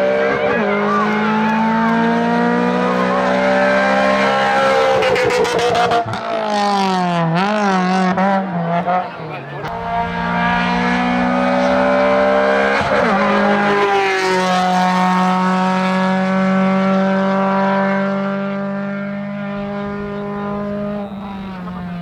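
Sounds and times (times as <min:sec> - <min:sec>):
rally car passing at full throttle: 0:00.0 - 0:22.0.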